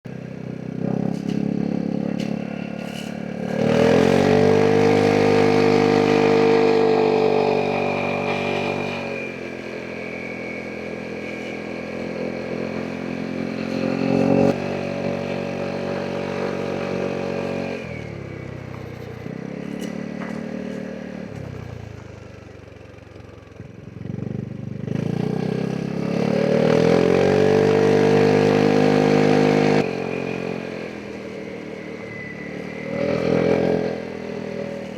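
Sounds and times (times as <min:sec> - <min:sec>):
scooter engine accelerating: 0:00.0 - 0:34.9.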